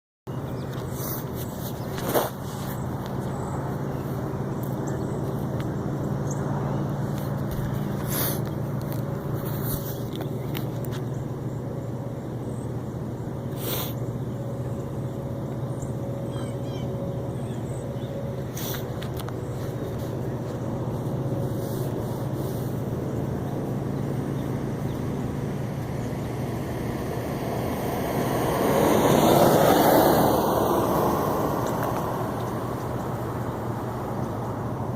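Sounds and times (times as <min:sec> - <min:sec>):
constant rushing noise: 0:00.3 - 0:34.9
low tonal hum: 0:00.3 - 0:34.9.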